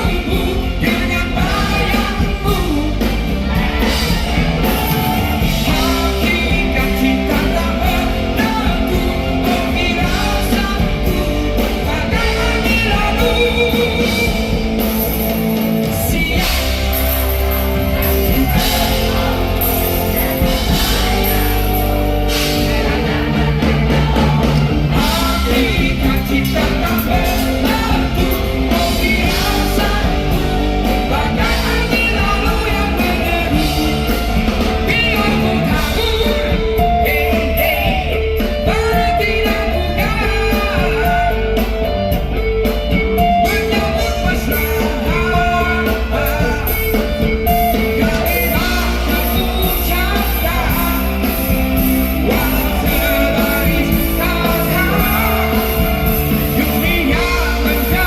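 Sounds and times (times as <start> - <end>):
person singing: 0.0 - 58.0
rock band playing: 0.0 - 58.0.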